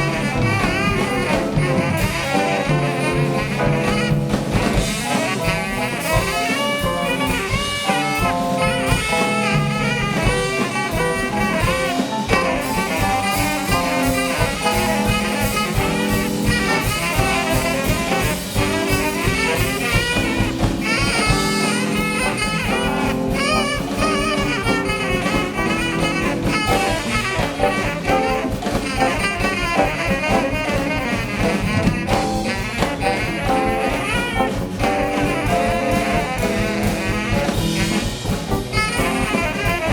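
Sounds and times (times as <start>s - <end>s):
drum kit beat: 0.0s - 39.9s
horns playing melody: 0.0s - 39.9s
live band playing jazz: 0.0s - 39.9s.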